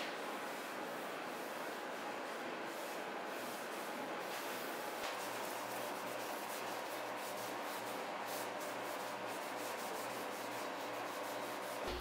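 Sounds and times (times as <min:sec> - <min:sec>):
pad scrubbing on wood: 0:00.5 - 0:12.0.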